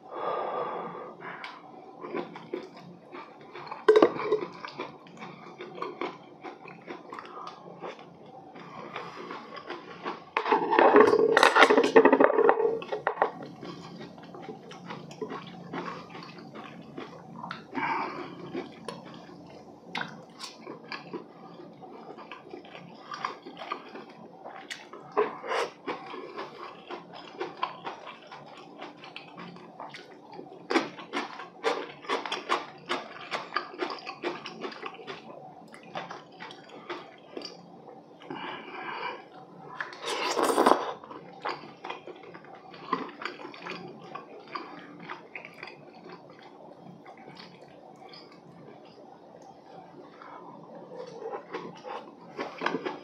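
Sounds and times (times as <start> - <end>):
wet chewing: 1.2 - 53.0.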